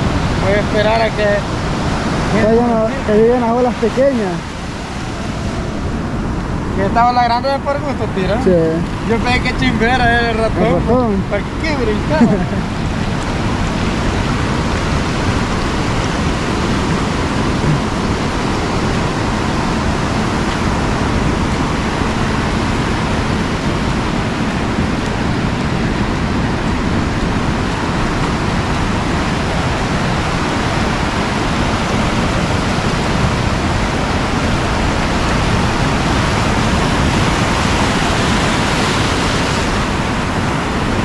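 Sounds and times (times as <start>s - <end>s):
ocean surf breaking: 0.0s - 41.0s.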